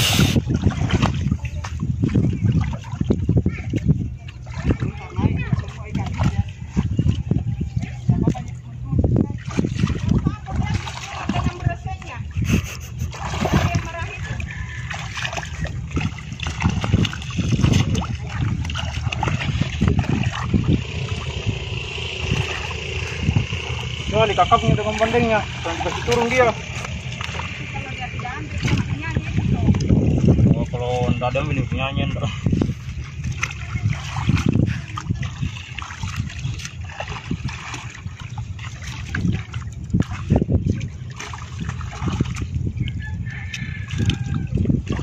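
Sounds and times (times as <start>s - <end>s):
pond water splashing: 0.0s - 45.0s
wind rumble on microphone: 0.0s - 45.0s.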